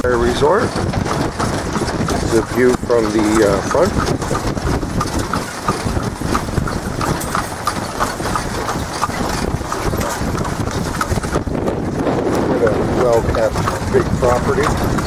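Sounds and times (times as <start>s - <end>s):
buggy rumbling: 0.0s - 15.0s
horse hooves clip-clopping on pavement: 0.0s - 15.0s.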